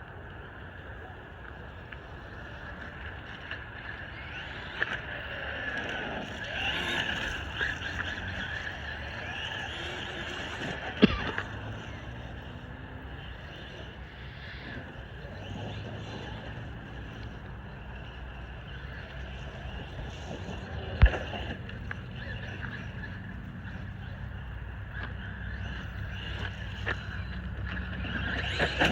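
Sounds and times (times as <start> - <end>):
rc truck motor whining: 0.0 - 28.9.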